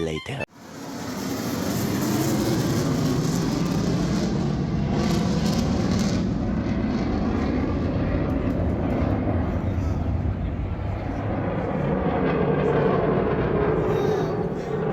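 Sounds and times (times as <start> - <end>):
engine rumble: 0.6 - 14.9.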